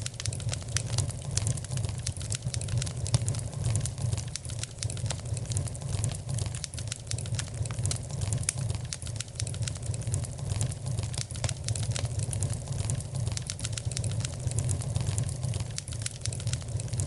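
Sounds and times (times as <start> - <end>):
low rumble of flame: 0.0 - 17.0
wood fire crackling: 0.0 - 17.0.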